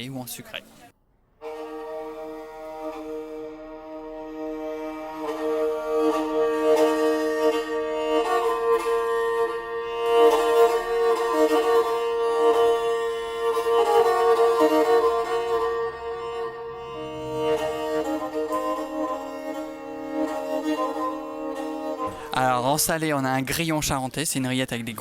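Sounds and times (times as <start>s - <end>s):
held drone note: 1.4s - 22.4s
bowed string melody: 1.4s - 23.6s.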